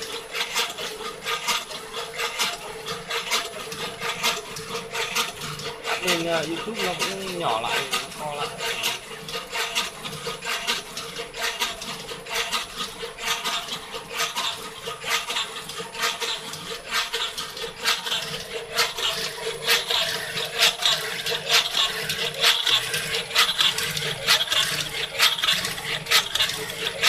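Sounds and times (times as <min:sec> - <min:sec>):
scraping and clicking strokes: 0:00.0 - 0:27.0.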